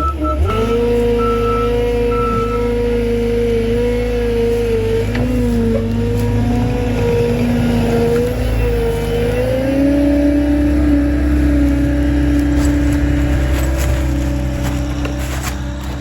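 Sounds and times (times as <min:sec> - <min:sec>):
heavy machinery engine under load: 0:00.0 - 0:16.0.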